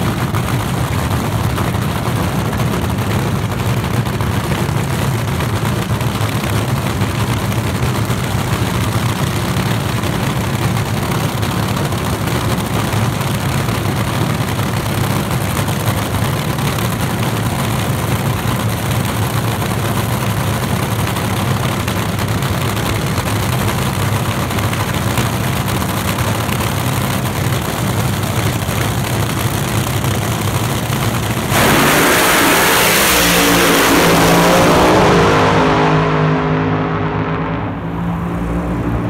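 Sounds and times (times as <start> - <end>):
dragster engine accelerating: 0.0 - 39.0.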